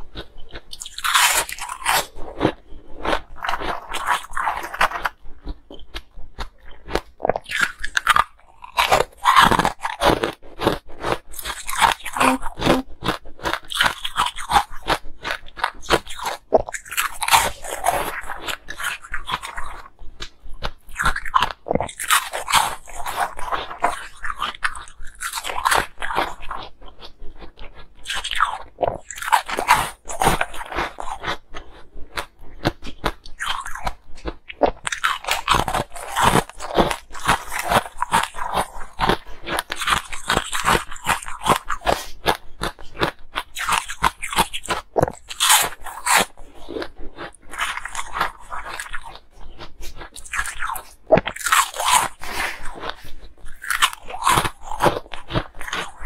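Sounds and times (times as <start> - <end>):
ice cubes crunching while chewed: 0.0 - 56.0.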